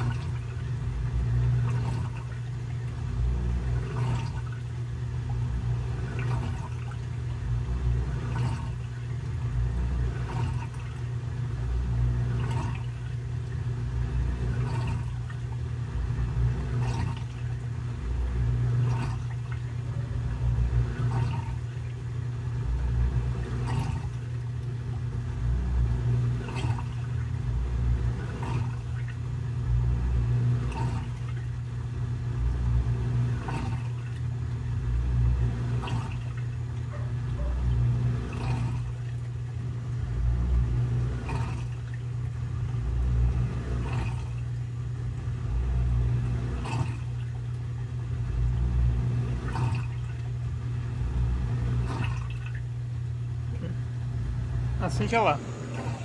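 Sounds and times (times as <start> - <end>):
water rushing and gurgling: 0.0 - 44.7, 45.4 - 56.0
drain pump humming: 0.0 - 56.0.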